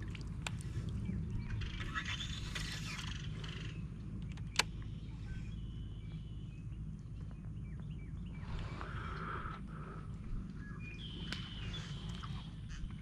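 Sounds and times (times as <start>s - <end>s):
steady low rumble: 0.0s - 13.0s
birds chirping: 0.4s - 13.0s.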